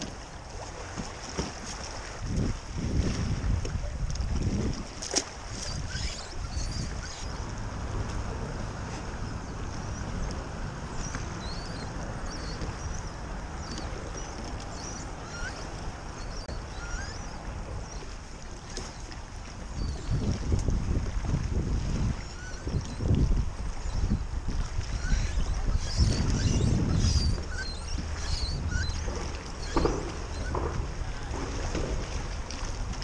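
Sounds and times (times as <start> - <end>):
water lapping at kayak: 0.0 - 33.0
wind buffeting microphone: 2.0 - 18.3, 19.4 - 33.0.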